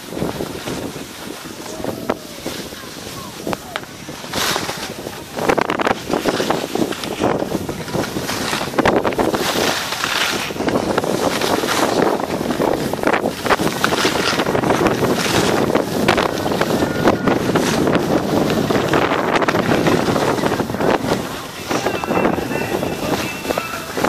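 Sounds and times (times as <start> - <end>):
skis scraping on snow: 0.0 - 24.0
wind rushing over microphone: 0.0 - 24.0.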